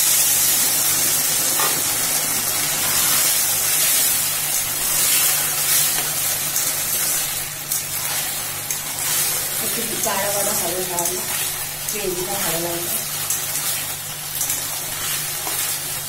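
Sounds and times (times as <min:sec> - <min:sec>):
gravy sizzling in a pan: 0:00.0 - 0:16.0
spatula stirring in a pan: 0:01.5 - 0:12.5, 0:13.1 - 0:16.0.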